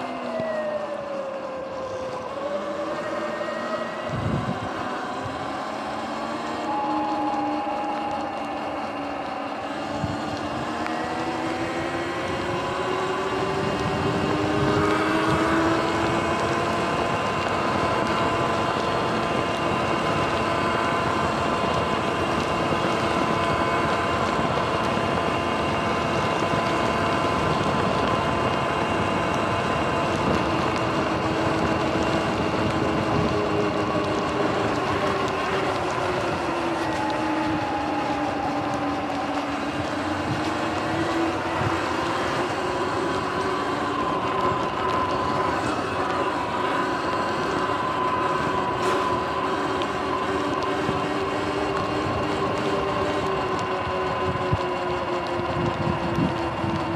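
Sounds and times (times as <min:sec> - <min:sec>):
electric motor whining: 0:00.0 - 0:56.9
tyre noise on wet pavement: 0:00.0 - 0:56.9.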